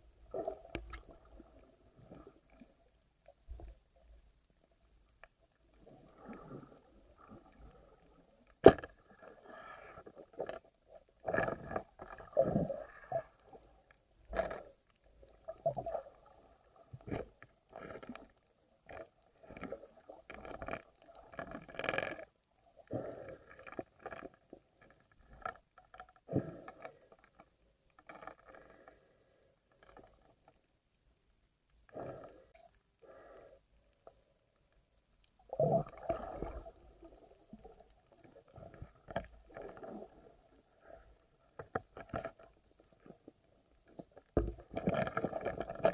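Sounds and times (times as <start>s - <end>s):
muffled underwater water movement: 0.0s - 45.9s.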